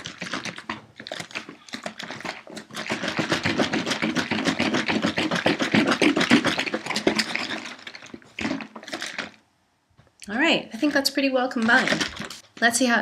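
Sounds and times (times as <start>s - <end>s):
liquid sloshing in plastic jug: 0.0s - 9.5s, 11.5s - 12.5s.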